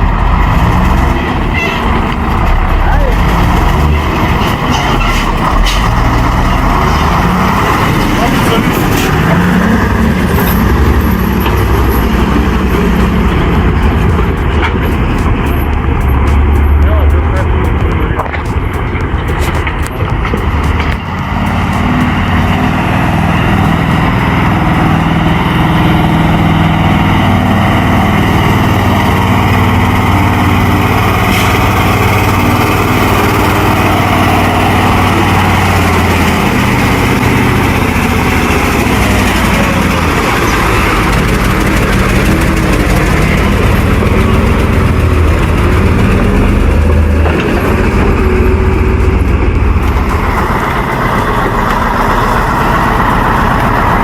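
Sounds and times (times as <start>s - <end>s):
heavy truck engine under load: 0.0s - 54.0s.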